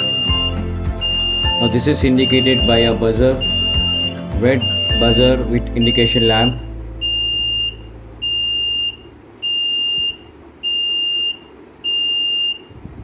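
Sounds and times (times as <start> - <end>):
high-pitched buzzer beeping: 0.0 - 12.6.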